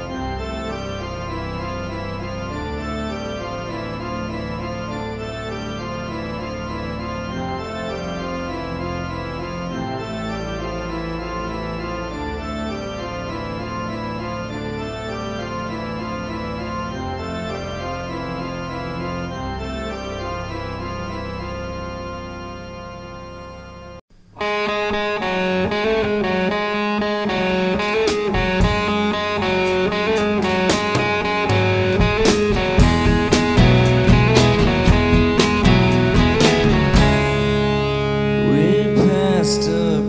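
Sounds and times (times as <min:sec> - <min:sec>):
instrumental background music: 0:00.0 - 0:40.0.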